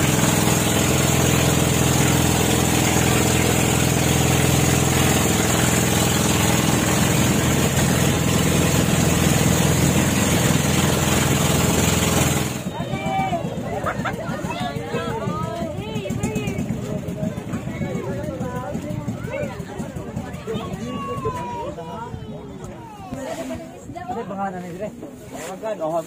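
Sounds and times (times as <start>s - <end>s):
engine running steadily: 0.0s - 23.8s.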